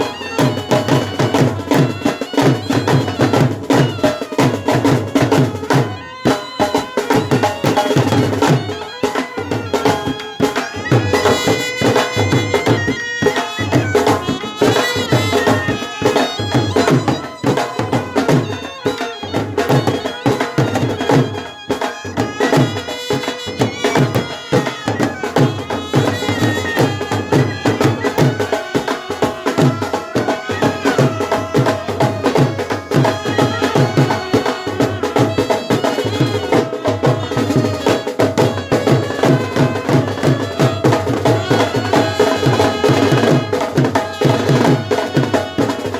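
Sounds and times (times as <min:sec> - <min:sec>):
brass band playing folk tune: 0:00.0 - 0:45.9
steady drumming: 0:00.0 - 0:45.9.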